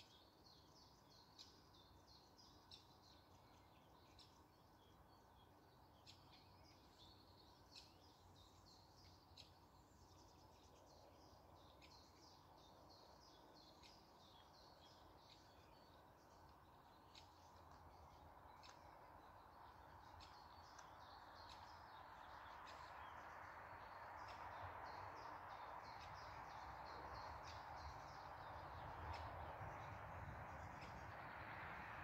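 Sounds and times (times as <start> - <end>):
faint birds chirping: 0.0 - 32.0.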